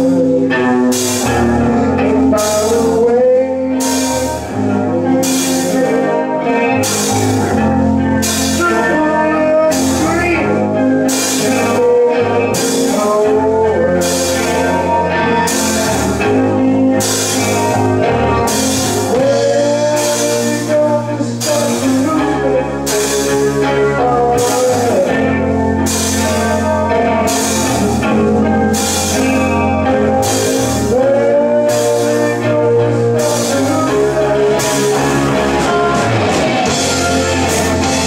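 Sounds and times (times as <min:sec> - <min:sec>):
lead vocals: 0:00.0 - 0:38.0
rock band playing: 0:00.0 - 0:38.0.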